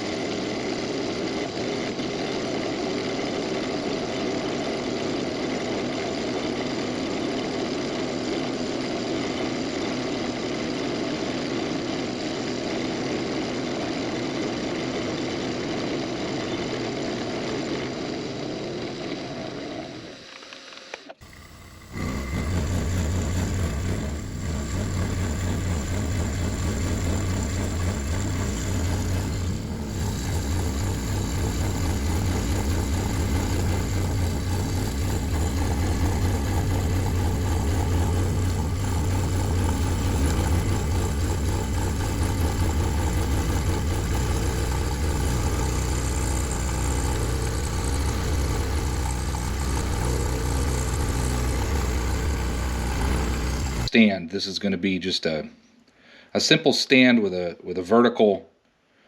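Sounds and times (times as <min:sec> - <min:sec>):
milling machine motor hum: 0:00.0 - 0:53.9.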